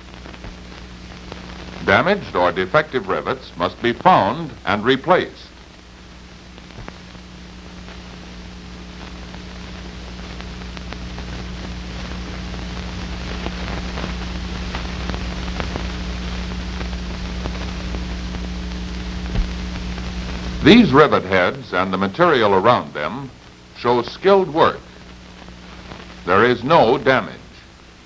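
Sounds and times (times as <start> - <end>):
electrical hum: 0.0 - 28.0
faint crackles: 0.0 - 28.0
tape hiss: 0.0 - 28.0.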